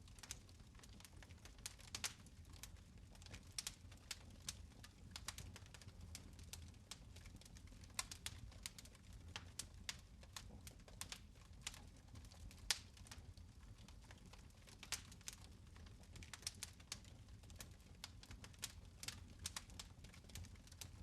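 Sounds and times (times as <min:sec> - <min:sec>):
fire snaps and pops: 0:00.0 - 0:21.0.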